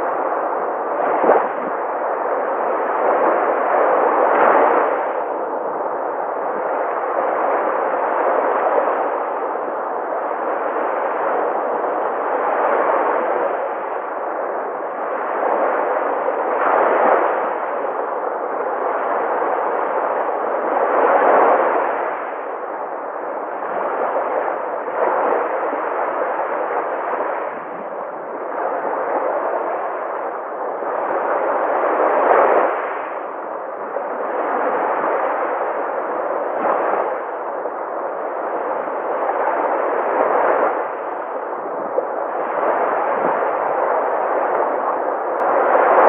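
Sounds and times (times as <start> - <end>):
sea waves breaking: 0.0 - 46.0.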